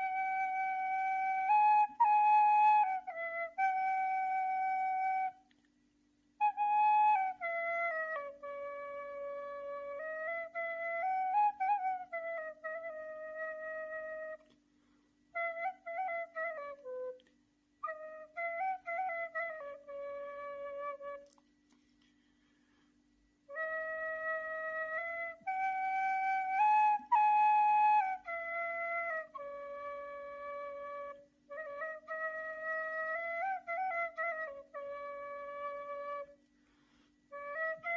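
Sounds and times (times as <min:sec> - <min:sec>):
reed flute solo melody: 0:00.0 - 0:05.7, 0:06.4 - 0:14.6, 0:15.3 - 0:21.4, 0:23.4 - 0:37.9.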